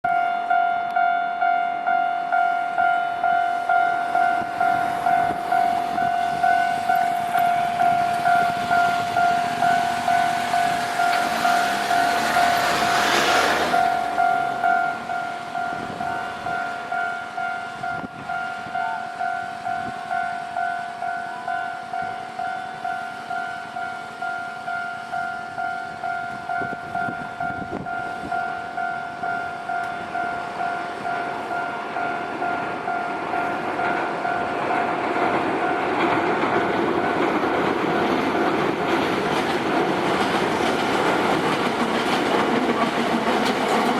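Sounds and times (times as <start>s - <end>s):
level crossing warning bell: 0.0s - 43.9s
train rumble: 0.1s - 43.9s.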